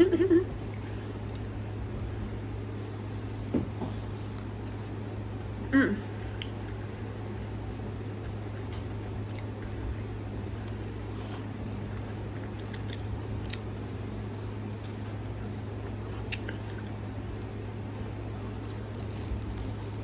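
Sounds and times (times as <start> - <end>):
chewing chicken wings: 0.0 - 20.0
steady low hum: 0.0 - 20.0.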